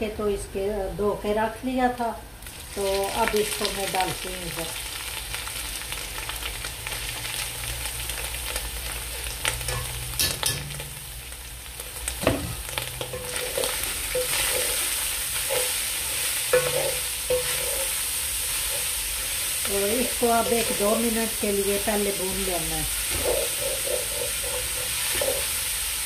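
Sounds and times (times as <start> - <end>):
meat sizzling in hot oil: 2.4 - 26.0.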